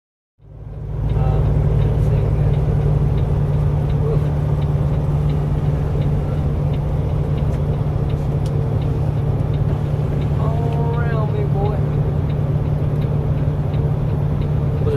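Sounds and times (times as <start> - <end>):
diesel truck engine drone: 0.4 - 14.9
road noise: 0.4 - 14.9.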